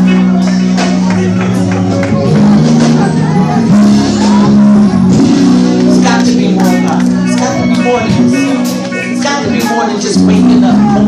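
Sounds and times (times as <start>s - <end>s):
slow gospel music: 0.0s - 11.0s.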